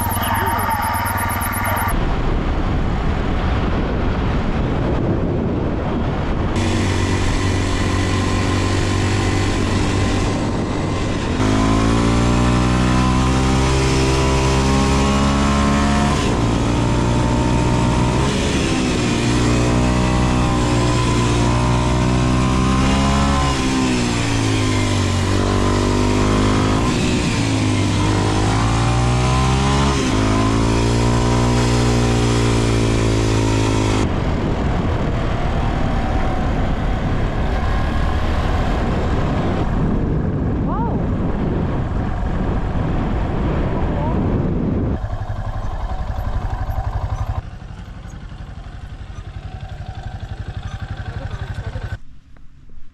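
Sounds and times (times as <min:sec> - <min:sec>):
motorcycle engine accelerating: 0:00.0 - 0:02.0, 0:04.8 - 0:52.0
wind rush: 0:00.0 - 0:15.2, 0:16.1 - 0:47.5.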